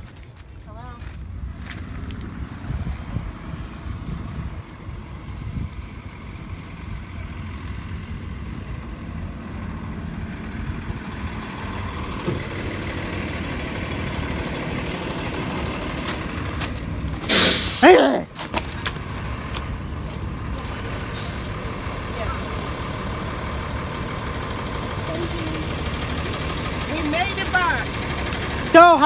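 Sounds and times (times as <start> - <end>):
vehicle interior low rumble: 0.0 - 17.2, 18.4 - 29.0.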